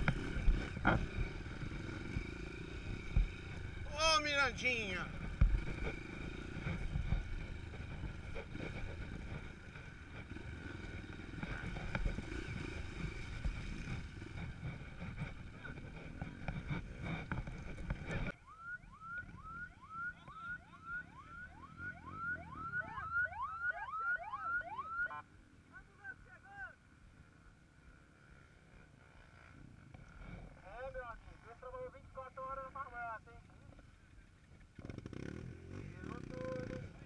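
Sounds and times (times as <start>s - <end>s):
dirt bike engines idling: 0.0s - 37.0s.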